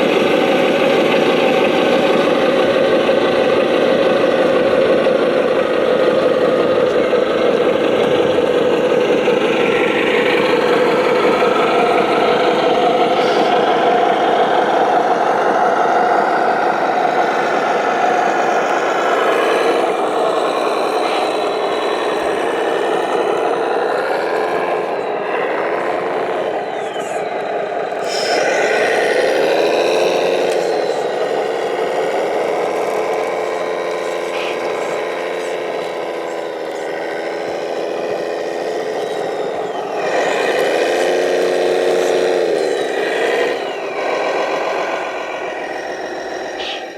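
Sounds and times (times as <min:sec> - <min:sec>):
model motors whining: 0:00.0 - 0:46.9.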